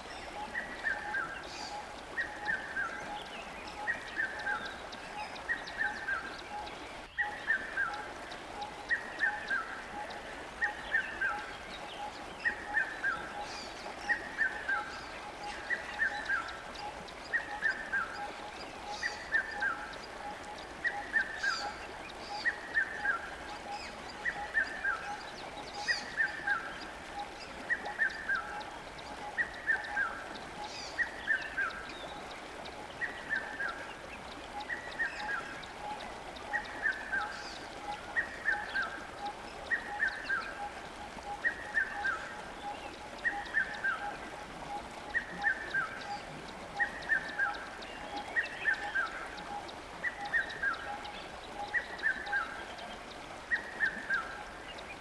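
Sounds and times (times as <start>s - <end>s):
flowing water hiss: 0.0s - 55.0s.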